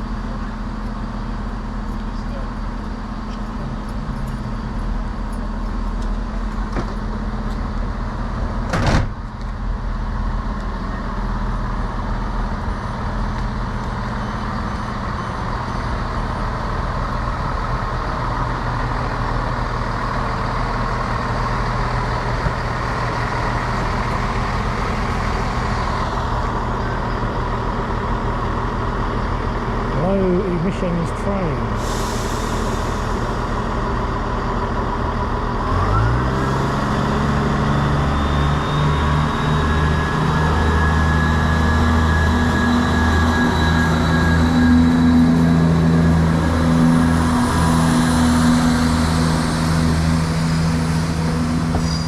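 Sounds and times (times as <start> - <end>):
train engine running: 0.0 - 52.0.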